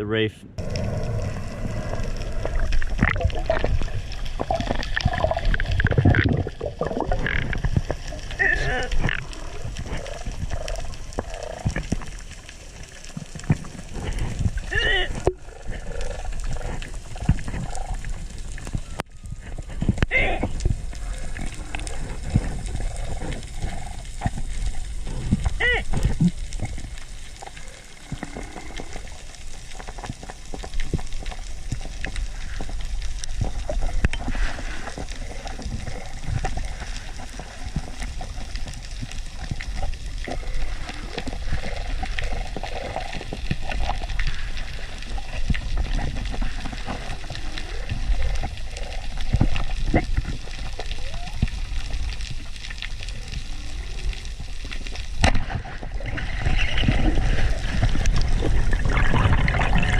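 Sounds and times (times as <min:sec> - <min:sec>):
low rumble of moving water: 0:00.0 - 0:59.9
dense crackle of small clicks: 0:00.6 - 0:59.9.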